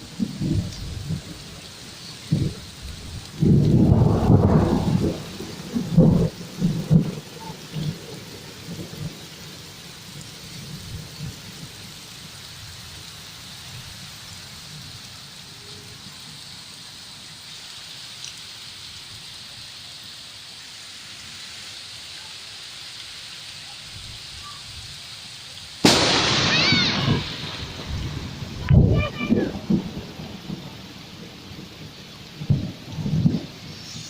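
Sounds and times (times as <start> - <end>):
rain hissing: 0.0 - 34.0.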